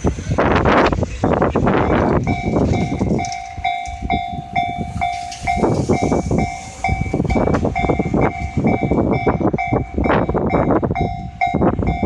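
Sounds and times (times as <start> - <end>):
train wheels clacking on rail joints: 0.0 - 12.0
two-tone level-crossing bell: 2.0 - 12.0.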